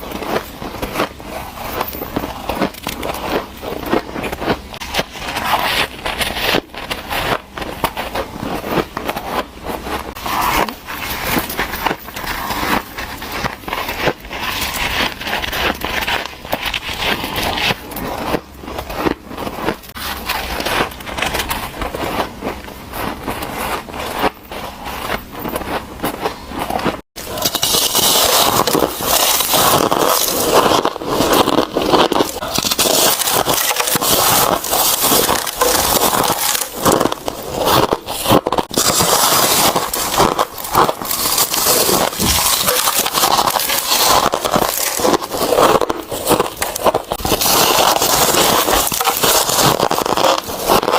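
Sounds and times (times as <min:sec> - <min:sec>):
teeth crunching hard ice: 0:00.0 - 0:50.9.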